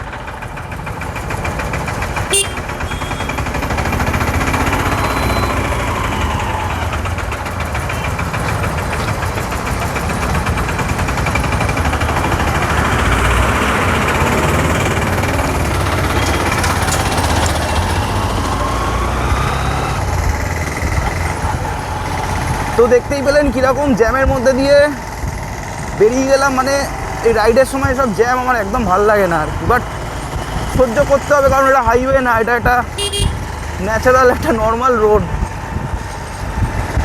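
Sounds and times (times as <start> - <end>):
motorcycle engine running: 0.0 - 37.0
traffic vehicles: 0.0 - 37.0
wind and road noise: 0.0 - 37.0.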